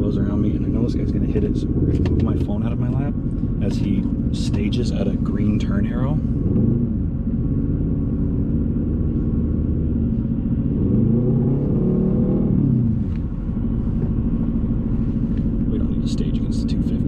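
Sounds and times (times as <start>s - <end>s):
car engine idling: 0.0s - 17.0s
engine note rising and falling: 0.0s - 17.0s.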